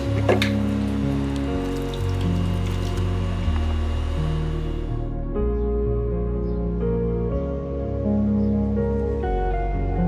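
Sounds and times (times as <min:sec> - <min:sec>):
calm music with soft chords: 0:00.0 - 0:10.0.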